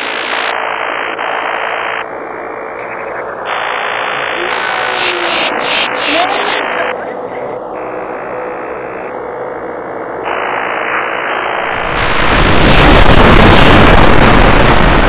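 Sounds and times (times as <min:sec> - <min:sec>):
harsh static-like drone: 0:00.0 - 0:15.0.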